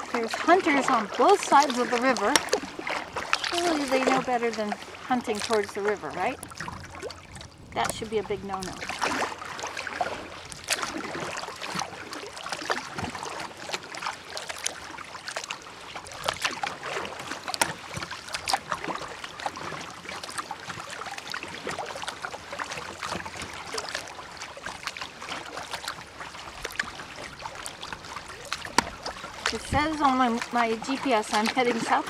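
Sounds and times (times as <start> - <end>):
paddle splashing in water: 0.0 - 32.0
water dripping: 0.0 - 32.0.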